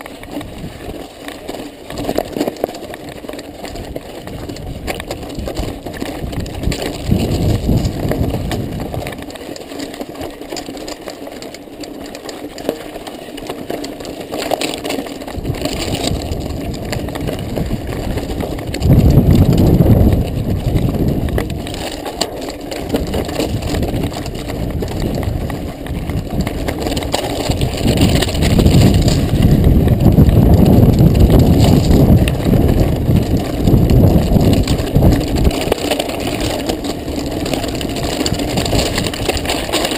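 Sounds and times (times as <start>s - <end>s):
bike rattling: 0.0s - 39.9s
bike tyres crunching on gravel: 0.0s - 39.9s.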